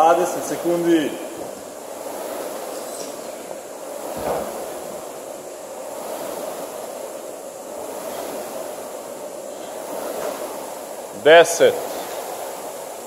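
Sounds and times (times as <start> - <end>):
rowing machine fan whooshing: 0.0 - 13.0.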